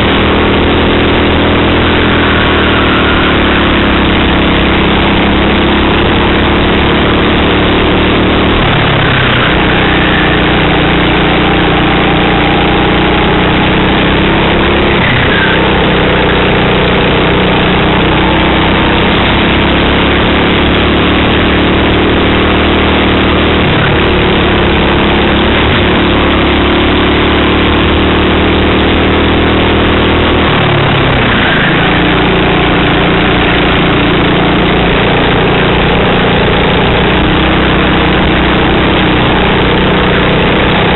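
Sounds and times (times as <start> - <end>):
racing kart engine: 0.0 - 40.9.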